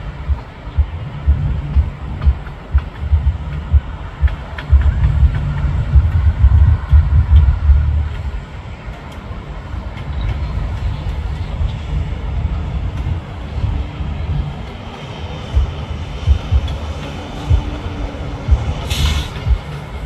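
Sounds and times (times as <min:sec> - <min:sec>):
diesel freight train passing: 0:00.0 - 0:20.0.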